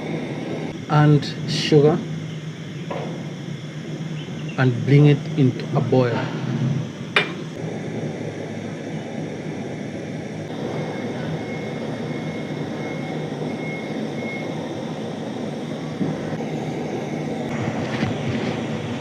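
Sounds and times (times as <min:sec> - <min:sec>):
pot boiling hard: 0:00.0 - 0:19.0.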